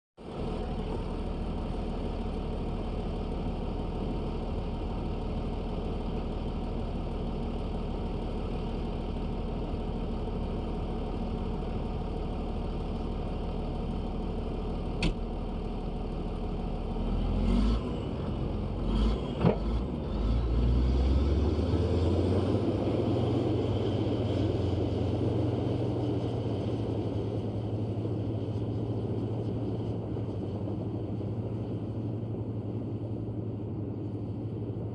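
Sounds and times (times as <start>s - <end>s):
bulldozer diesel engine running: 0.2s - 34.9s.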